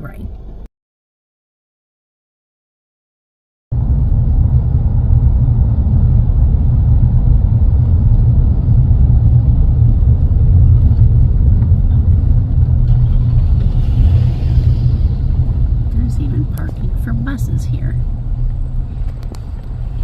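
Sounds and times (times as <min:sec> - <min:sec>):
car road and engine rumble: 0:03.7 - 0:20.0.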